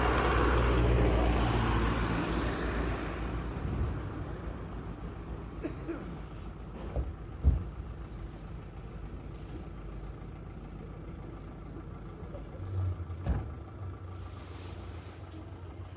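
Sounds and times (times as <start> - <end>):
low outdoor rumble: 0.0 - 15.9.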